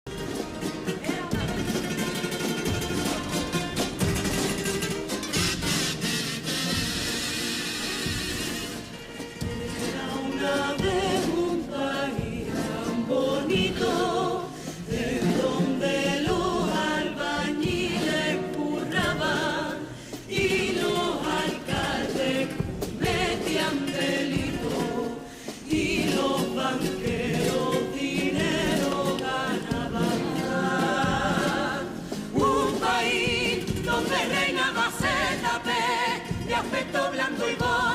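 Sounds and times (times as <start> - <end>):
choir singing in several parts: 0.1 - 37.9
strummed guitars: 0.1 - 37.9.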